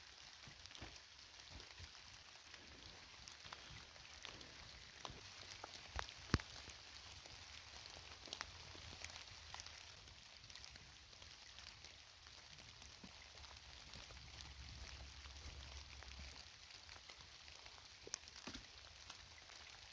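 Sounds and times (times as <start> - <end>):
faint steady rain: 0.0 - 19.9
sharp ticks of raindrops: 0.0 - 19.9.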